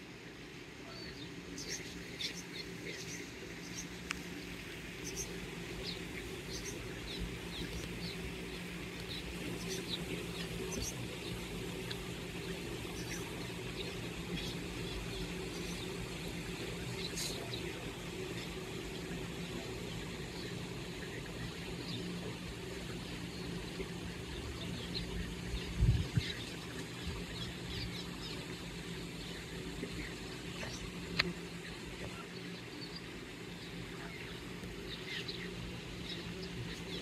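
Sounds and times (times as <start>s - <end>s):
steady low hum: 0.0s - 37.0s
swallows twittering: 0.8s - 37.0s.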